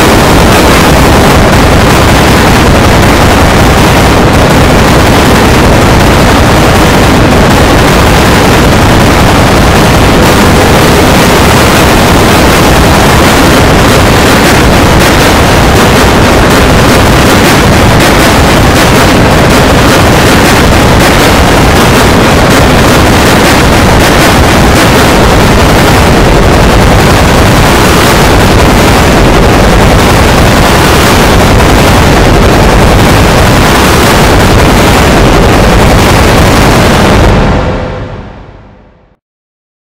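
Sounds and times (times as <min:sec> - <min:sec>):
harsh distorted noise: 0:00.0 - 0:39.2.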